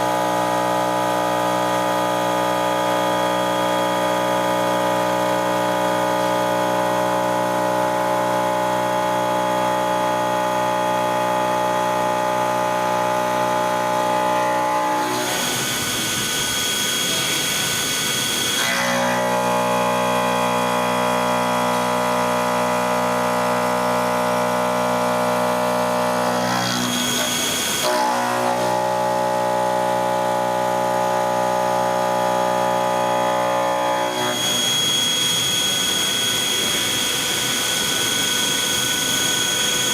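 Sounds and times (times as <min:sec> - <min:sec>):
milling machine whine: 0:00.1 - 0:39.9.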